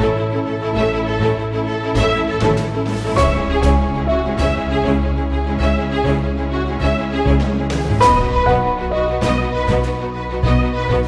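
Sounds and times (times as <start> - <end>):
steady low bass: 1.2 - 10.3
held instrumental notes: 2.0 - 11.0.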